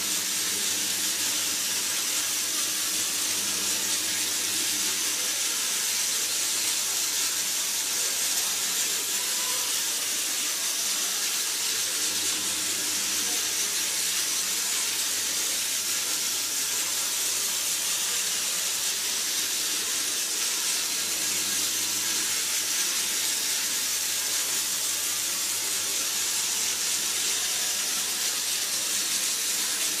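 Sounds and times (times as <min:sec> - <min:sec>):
toy train motor whirring: 0:00.0 - 0:30.0.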